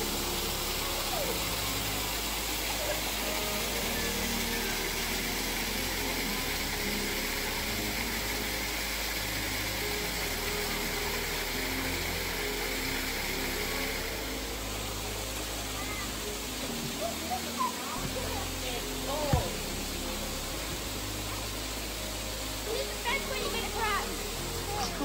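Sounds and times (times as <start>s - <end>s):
quiet background music: 0.0s - 25.0s
waterfall roaring: 0.0s - 25.0s.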